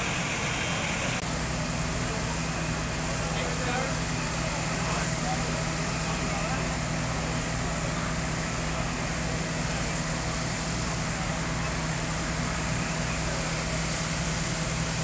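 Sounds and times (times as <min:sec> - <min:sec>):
diesel engines humming: 0:00.0 - 0:15.0.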